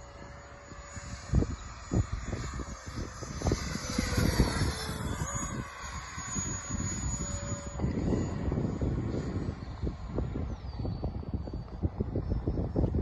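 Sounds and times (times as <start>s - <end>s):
model jet fan whining past: 0.0s - 13.0s
wind buffeting microphone: 0.0s - 13.0s.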